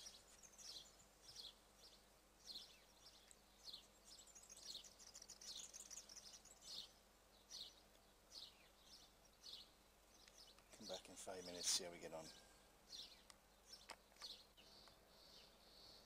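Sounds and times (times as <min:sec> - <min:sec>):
high falling bird chirps: 0:00.0 - 0:16.0.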